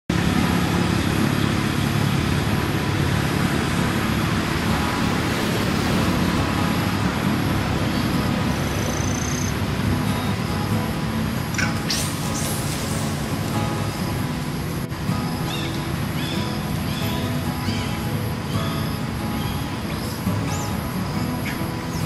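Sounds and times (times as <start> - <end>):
road traffic rumble: 0.1 - 22.0
thin high tone: 0.1 - 22.0.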